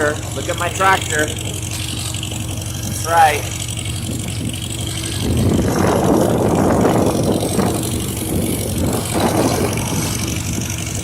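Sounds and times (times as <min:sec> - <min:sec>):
tractor engine running: 0:00.0 - 0:11.0
rushing noise: 0:01.4 - 0:11.0.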